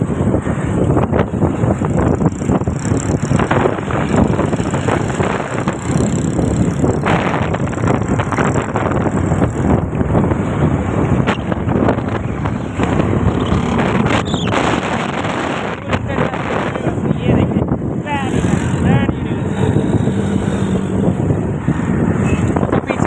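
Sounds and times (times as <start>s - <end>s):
road noise: 0.0s - 23.0s
wind buffeting microphone: 0.0s - 23.0s
motorbike engine: 1.0s - 15.7s, 18.0s - 22.8s.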